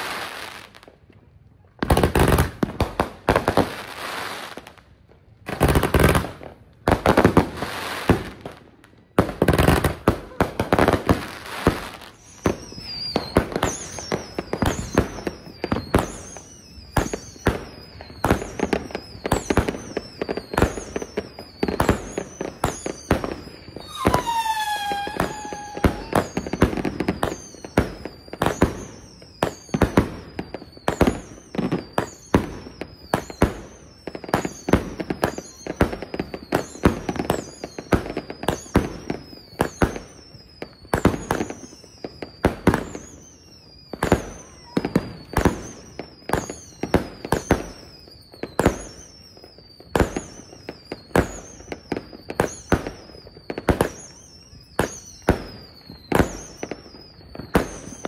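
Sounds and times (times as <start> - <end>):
falling firework whistle: 0.0 - 58.0
fireworks bangs: 0.0 - 58.0.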